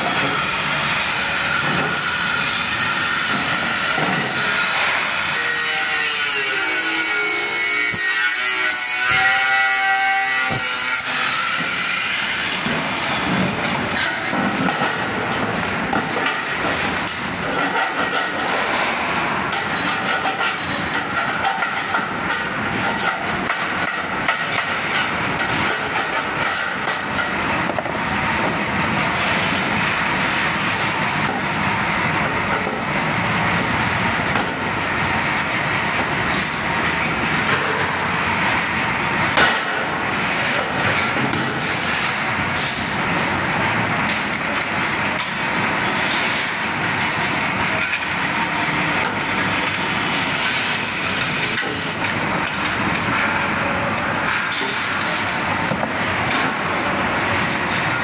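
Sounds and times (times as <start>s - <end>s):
steady industrial din: 0.0s - 58.0s.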